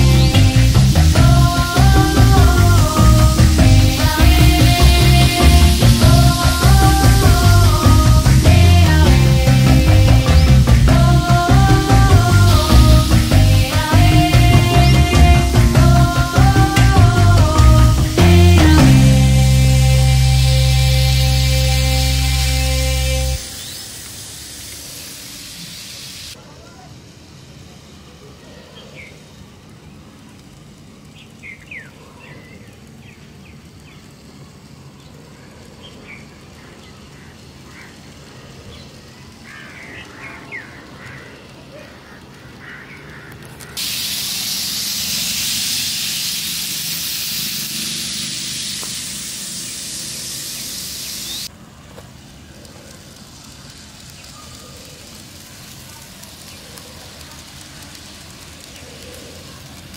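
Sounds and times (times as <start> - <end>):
loud steady hiss: 0.0 - 59.9.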